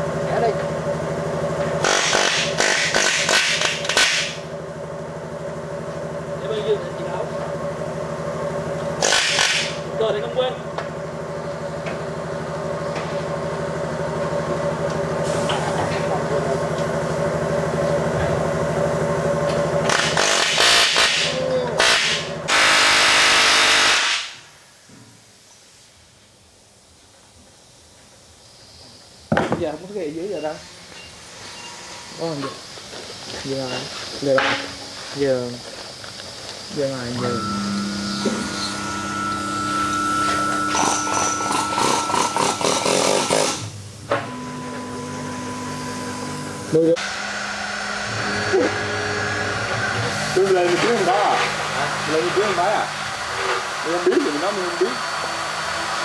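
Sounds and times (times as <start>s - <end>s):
tool humming: 0.0s - 24.4s, 28.6s - 56.0s
workshop power machinery running: 0.0s - 25.3s, 26.0s - 56.0s.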